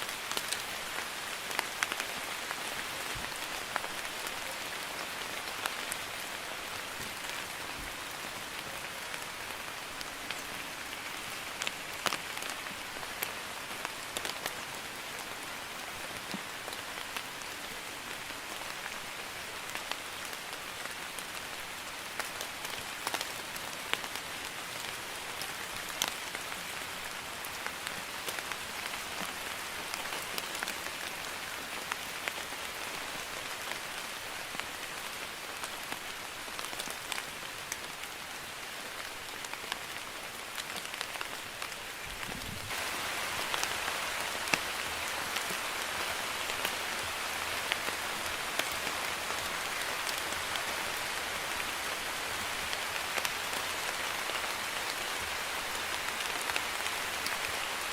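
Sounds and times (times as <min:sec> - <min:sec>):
light drizzling rain: 0:00.0 - 0:57.9.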